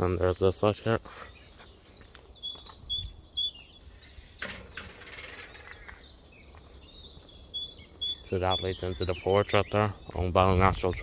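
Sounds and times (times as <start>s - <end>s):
small bird chirping: 1.2s - 10.4s.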